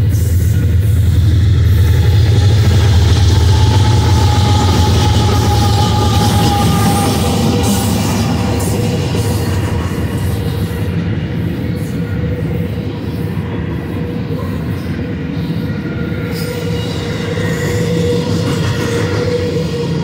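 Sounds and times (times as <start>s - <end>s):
steel wheels rumbling on rail: 0.0s - 20.0s.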